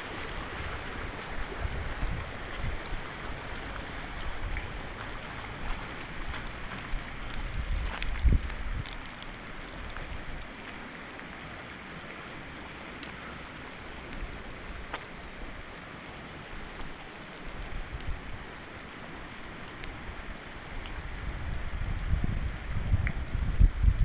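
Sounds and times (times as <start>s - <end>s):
wind and rain hissing: 0.0s - 24.0s.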